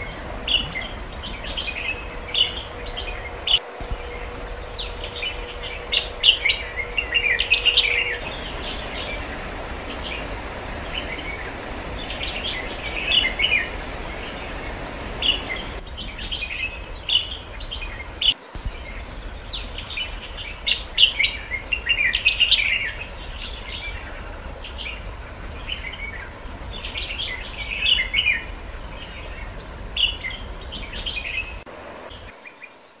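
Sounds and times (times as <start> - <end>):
low steady hum: 0.0 - 32.6
birds chirping: 0.0 - 33.0.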